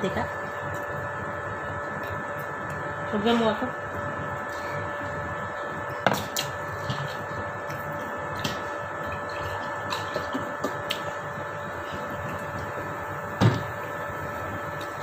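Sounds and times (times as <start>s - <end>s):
air conditioner hum: 0.0s - 15.0s.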